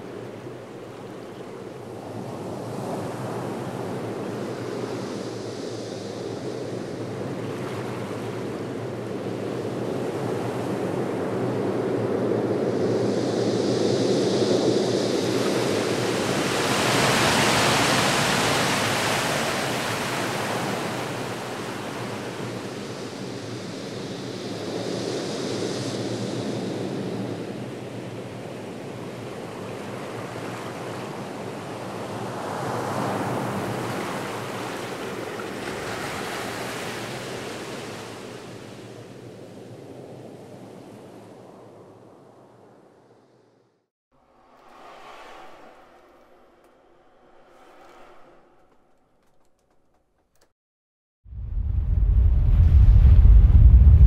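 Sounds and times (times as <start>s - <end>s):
ocean surf: 0.0s - 39.8s, 44.2s - 49.1s.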